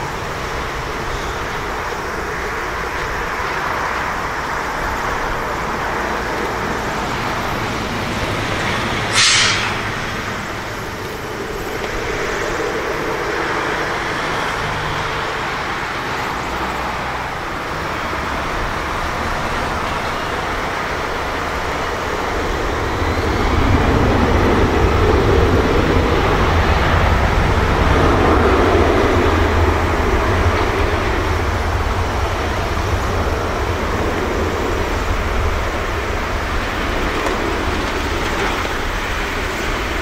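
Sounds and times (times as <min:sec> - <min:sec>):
jet engines at takeoff power: 0:00.0 - 0:40.0.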